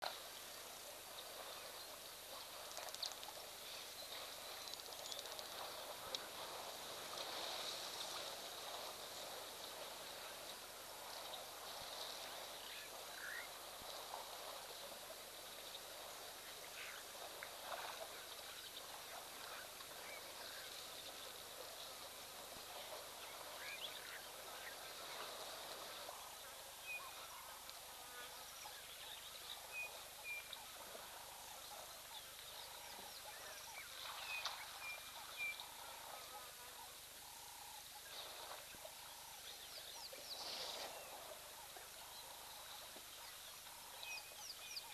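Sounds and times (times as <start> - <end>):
steady high-pitched hiss: 0.0 - 44.9.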